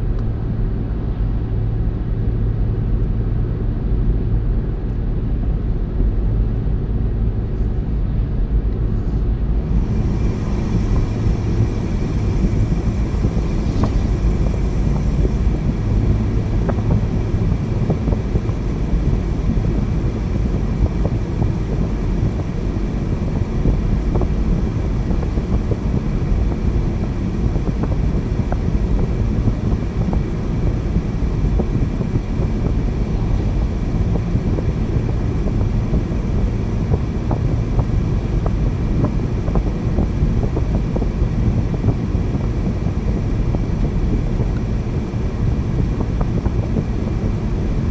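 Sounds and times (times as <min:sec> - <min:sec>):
car tyres and engine rumble: 0:00.0 - 0:47.9.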